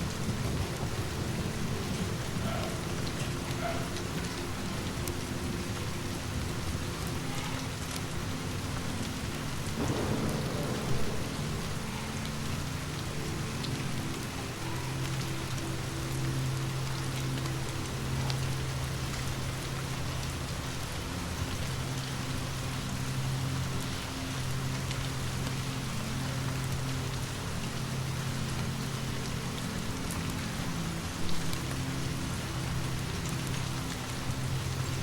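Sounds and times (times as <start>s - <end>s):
rain falling on a surface: 0.0s - 35.0s.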